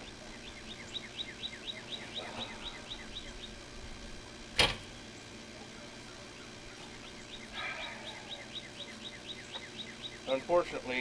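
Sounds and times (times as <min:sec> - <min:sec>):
bird singing: 0:00.0 - 0:03.8, 0:04.9 - 0:11.0.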